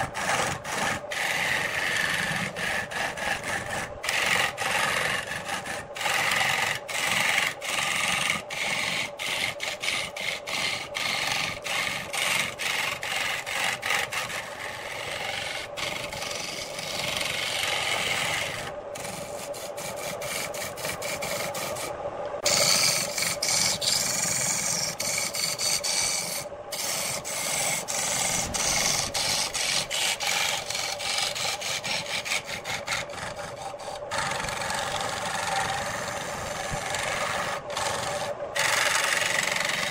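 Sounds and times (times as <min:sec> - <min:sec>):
lathe tool scraping wood: 0:00.0 - 0:39.9.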